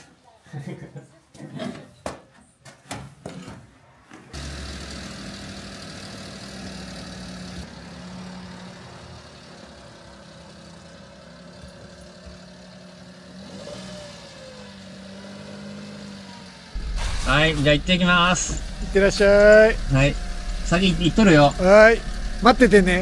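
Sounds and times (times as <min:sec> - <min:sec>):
van engine running: 0:04.4 - 0:23.0.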